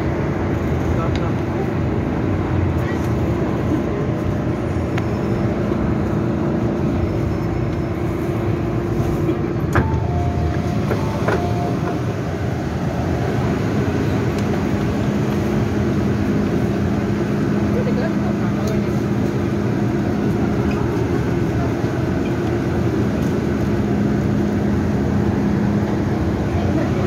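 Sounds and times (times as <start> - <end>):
train hum at platform: 0.0 - 27.0.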